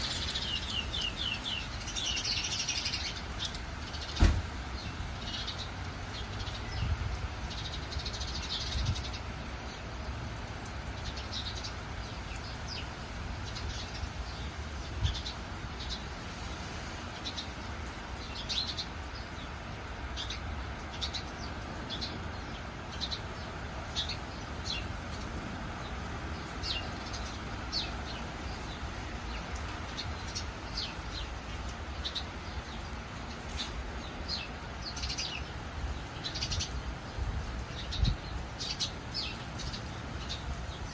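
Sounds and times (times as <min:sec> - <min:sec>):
rain hissing: 0:00.0 - 0:40.9
songbirds chirping: 0:00.0 - 0:40.9.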